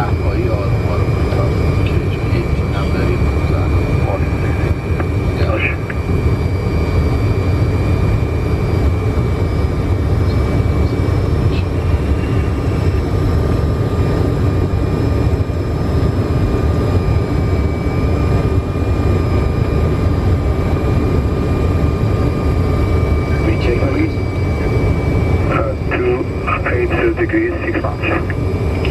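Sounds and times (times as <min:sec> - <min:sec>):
airflow and engine rumble: 0:00.0 - 0:28.9.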